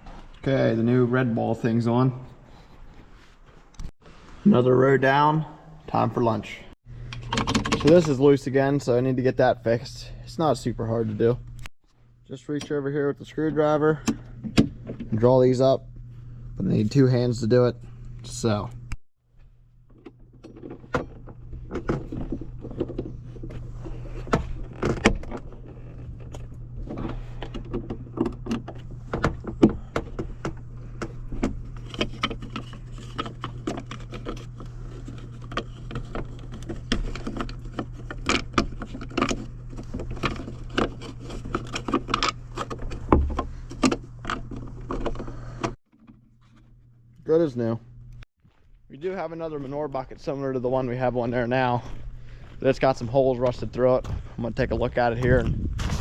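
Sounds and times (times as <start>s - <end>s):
steady low hum: 4.1s - 56.0s.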